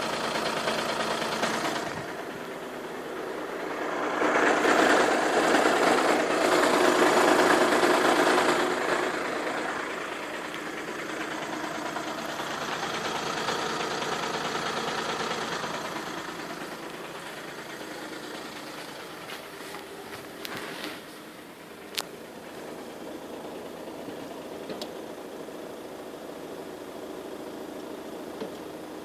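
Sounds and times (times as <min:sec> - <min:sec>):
diesel engine running: 0:00.0 - 0:29.0
strange engine noise: 0:00.0 - 0:29.0.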